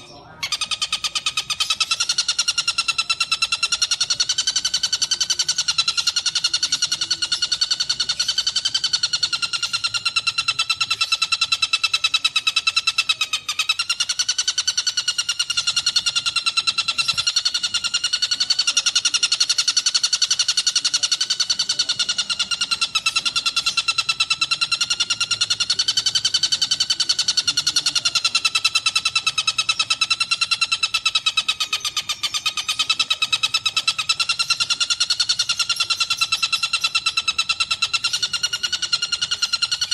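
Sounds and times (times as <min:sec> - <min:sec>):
bird's rapid buzzy trill: 0:00.0 - 0:39.9.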